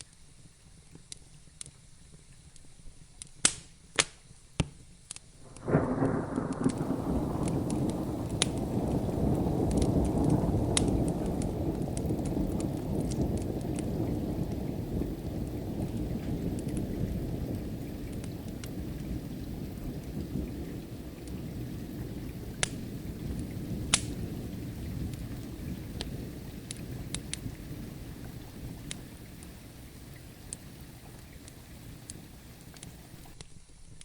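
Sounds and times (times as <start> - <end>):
wood fire crackling: 0.8 - 33.5
steady rain: 5.0 - 33.4
rolling thunder: 5.4 - 33.4.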